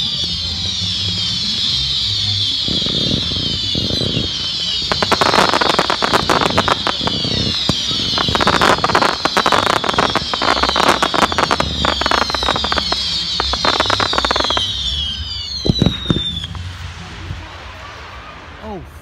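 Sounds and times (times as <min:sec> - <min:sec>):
firework whistles falling in pitch: 0:00.0 - 0:16.7
rapid crackling firework pops: 0:00.6 - 0:18.4.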